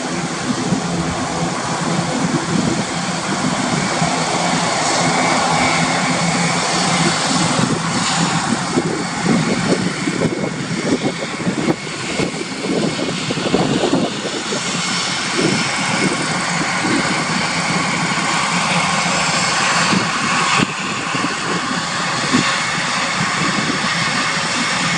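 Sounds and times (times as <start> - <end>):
fluttering rumble: 0.0 - 24.9
turboprop engines droning: 0.0 - 24.9.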